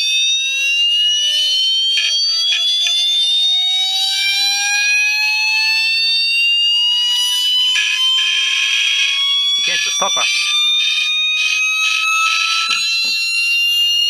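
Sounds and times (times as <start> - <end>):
high tone rising in pitch: 0.0 - 14.0.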